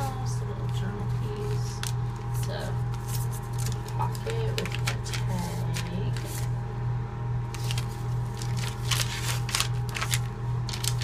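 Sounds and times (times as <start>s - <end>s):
paper pages rustling and crackling: 0.0s - 6.6s, 7.5s - 11.0s
steady low hum: 0.0s - 11.0s.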